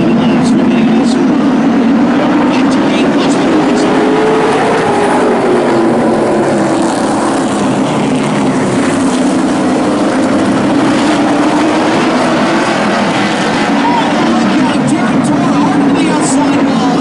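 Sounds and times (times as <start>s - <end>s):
race truck engines droning: 0.0s - 17.0s.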